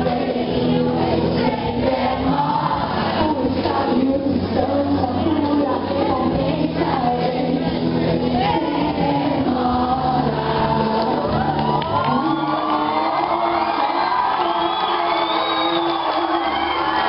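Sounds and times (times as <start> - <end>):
backing music track: 0.0 - 17.0
woman singing into microphone: 0.0 - 17.0.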